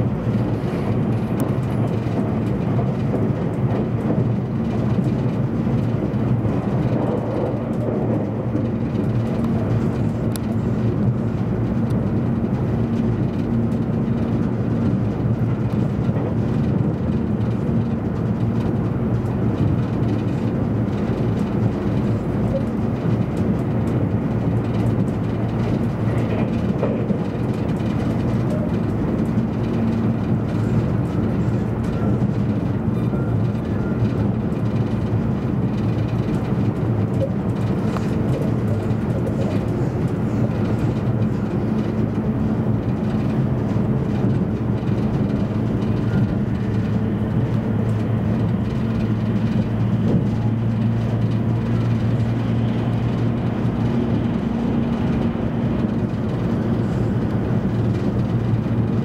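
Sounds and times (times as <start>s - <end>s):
train interior rumble and hum: 0.0s - 59.0s.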